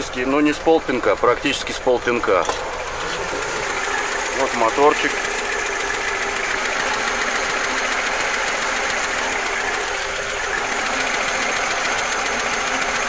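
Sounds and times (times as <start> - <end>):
van engine idling: 0.0 - 13.0.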